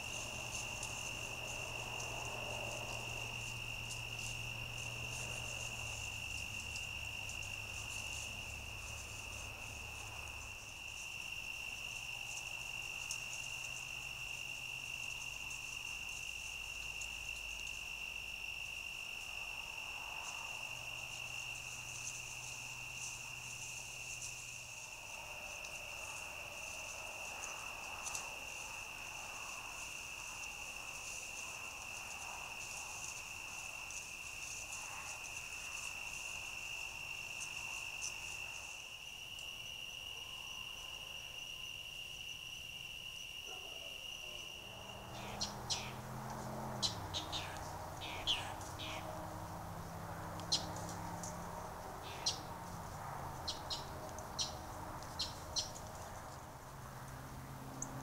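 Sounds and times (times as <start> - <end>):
crickets trilling: 0.0 - 58.0
faint high insect chirring: 0.0 - 58.0.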